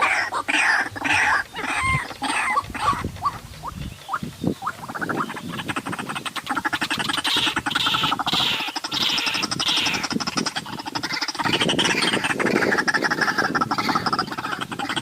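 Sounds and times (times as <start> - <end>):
waterhen croaking calls: 0.0 - 15.0.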